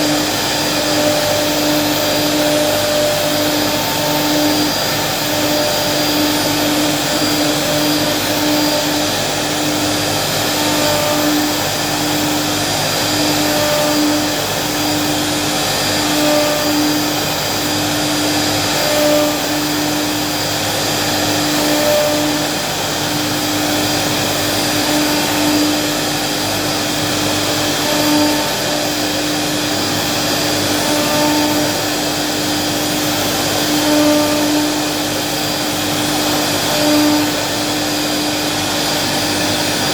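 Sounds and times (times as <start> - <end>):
machine motor whirring: 0.0 - 39.9.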